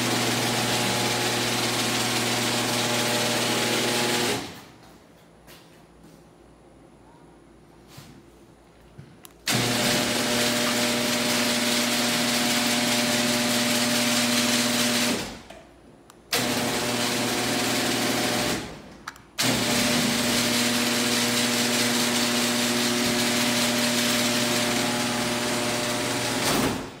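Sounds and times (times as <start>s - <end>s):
garage door motor humming and rattling: 0.0s - 4.9s, 9.4s - 27.0s.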